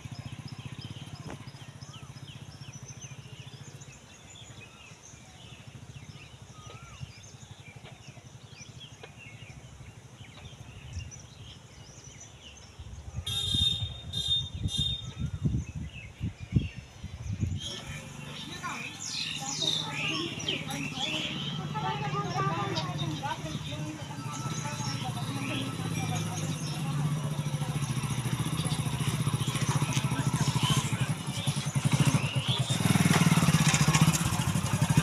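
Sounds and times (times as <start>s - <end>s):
birds chirping: 0.0s - 35.0s
motorcycle engine running: 0.0s - 35.0s.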